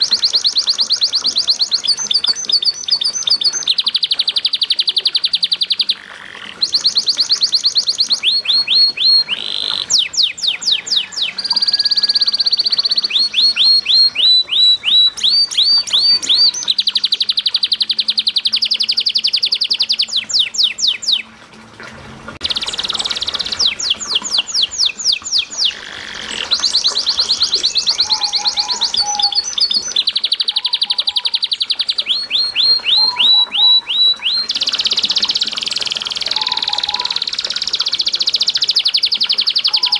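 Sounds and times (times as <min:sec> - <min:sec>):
canary singing trills: 0:00.0 - 0:21.3, 0:22.4 - 0:39.9.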